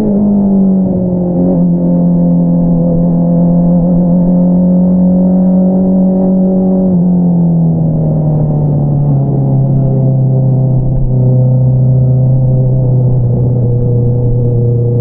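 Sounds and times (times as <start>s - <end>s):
motorcycle engine running: 1.6s - 15.0s.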